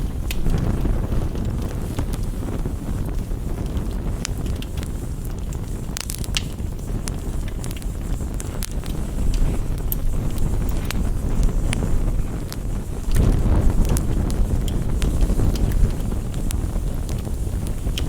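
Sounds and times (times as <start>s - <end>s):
campfire crackling: 0.0s - 18.0s
rain on a window: 0.0s - 18.0s.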